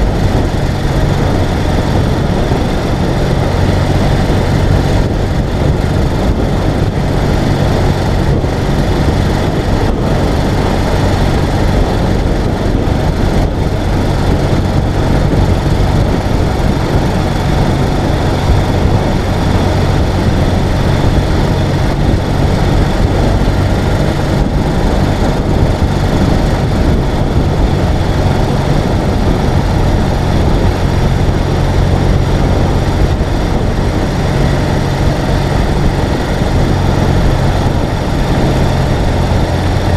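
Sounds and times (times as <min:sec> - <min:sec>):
motorcycle engine running: 0:00.0 - 0:39.9
rushing ride noise: 0:00.0 - 0:39.9.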